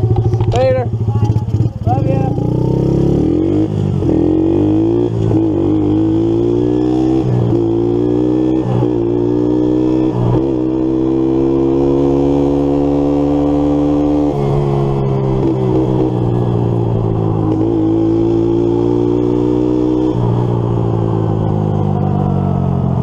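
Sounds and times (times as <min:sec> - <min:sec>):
motorbike engine running: 0:00.0 - 0:23.0.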